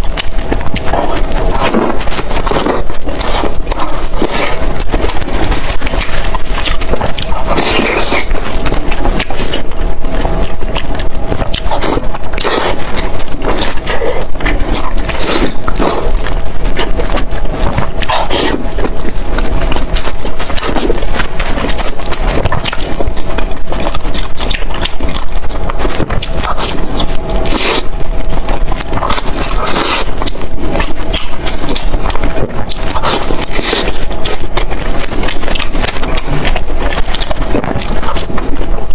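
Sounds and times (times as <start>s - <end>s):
close chewing mouth noises: 0.0s - 38.9s.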